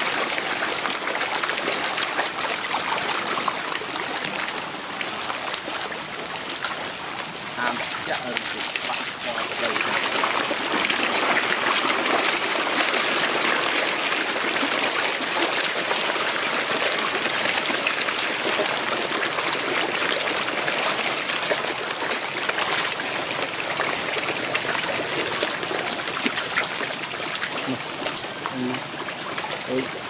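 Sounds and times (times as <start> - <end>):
fish splashing in water: 0.0 - 30.0.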